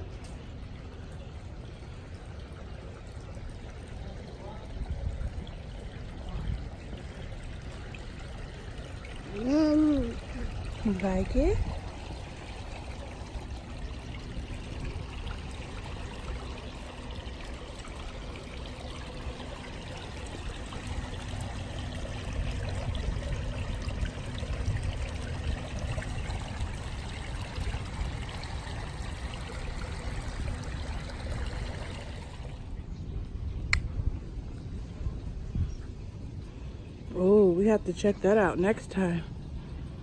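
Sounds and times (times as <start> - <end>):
running water trickling: 0.0 - 40.0.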